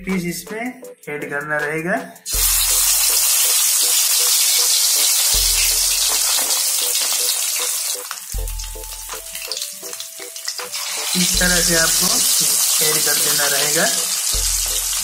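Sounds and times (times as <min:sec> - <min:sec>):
fish sizzling in hot oil: 0:02.3 - 0:15.0.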